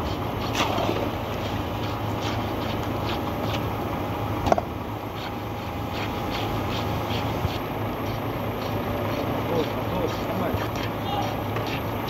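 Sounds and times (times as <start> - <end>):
machinery engine rumble: 0.0 - 12.0.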